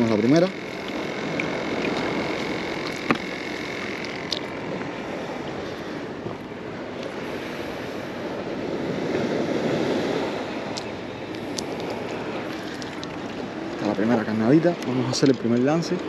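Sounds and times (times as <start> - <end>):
sea surf: 0.0 - 16.0
wind: 0.0 - 16.0.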